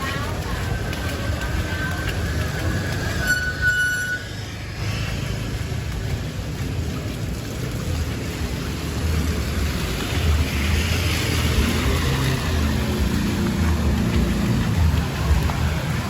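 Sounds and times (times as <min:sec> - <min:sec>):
low vehicle rumble: 0:00.0 - 0:16.0
water rushing: 0:00.0 - 0:16.0.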